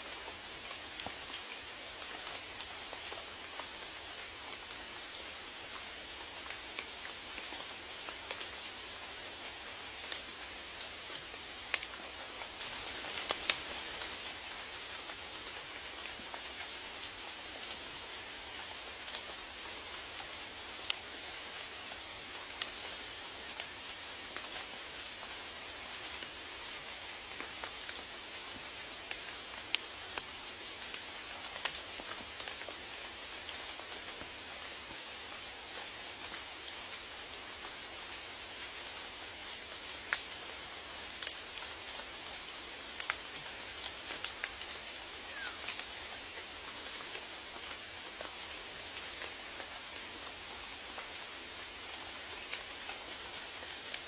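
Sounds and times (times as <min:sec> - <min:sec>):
raindrops ticking on a surface: 0:00.0 - 0:54.0
steady rain: 0:00.0 - 0:54.0.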